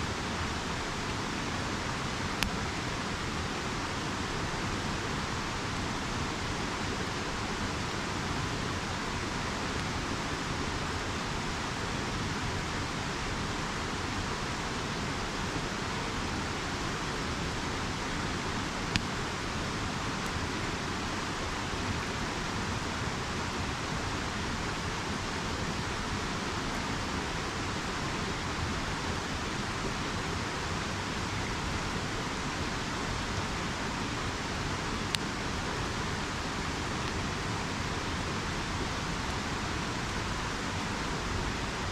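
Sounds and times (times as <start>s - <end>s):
river flowing: 0.0s - 41.9s
campfire crackling: 0.1s - 41.9s.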